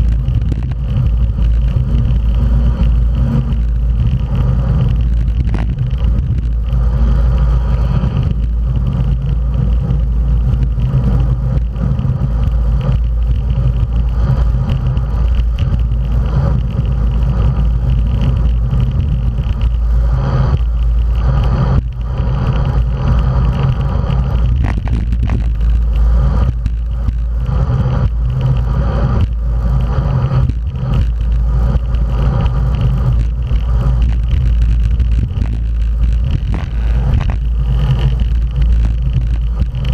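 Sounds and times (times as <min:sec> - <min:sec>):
bike tyres on asphalt: 0:00.0 - 0:39.9
wind buffeting microphone: 0:00.0 - 0:39.9.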